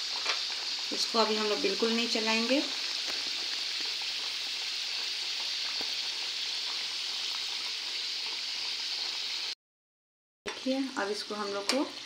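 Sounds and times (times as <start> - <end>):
food deep-frying in hot oil: 0.0 - 9.6, 10.5 - 12.0.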